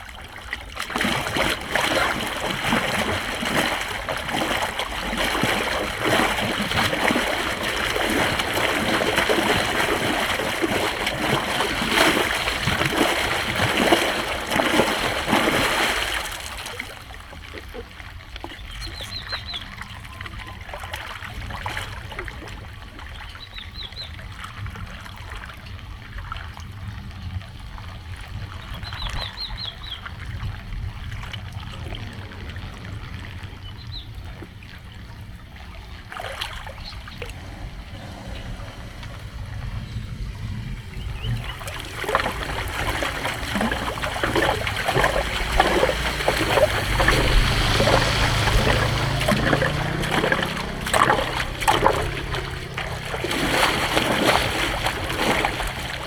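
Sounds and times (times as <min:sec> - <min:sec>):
floodwater splashing and rushing: 0:00.0 - 0:26.6, 0:28.1 - 0:56.0
water trickle: 0:00.0 - 0:56.0.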